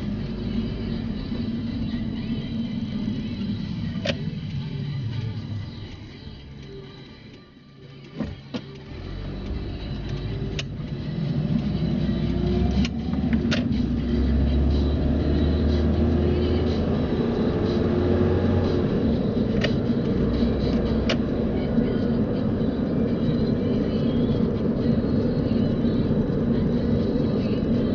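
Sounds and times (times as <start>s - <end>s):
car engine and tyre rumble: 0.0s - 27.9s.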